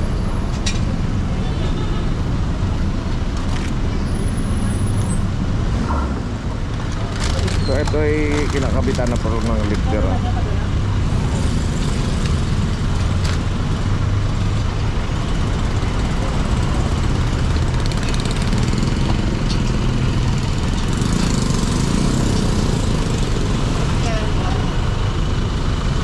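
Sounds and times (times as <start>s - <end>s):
road noise: 0.0s - 26.0s
vehicle engines idling: 0.0s - 26.0s.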